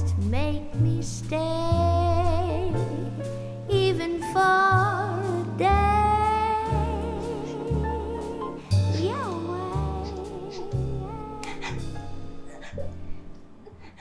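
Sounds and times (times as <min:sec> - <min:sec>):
bass line: 0:00.0 - 0:13.8.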